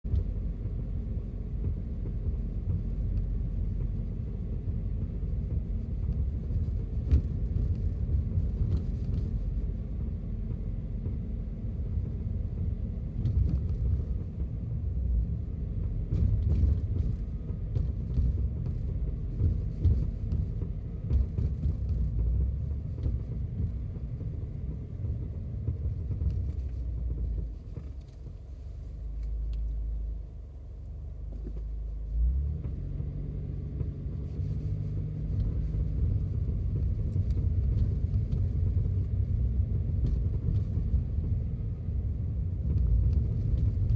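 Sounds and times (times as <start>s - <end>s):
road rumble in car cabin: 0.0s - 43.9s.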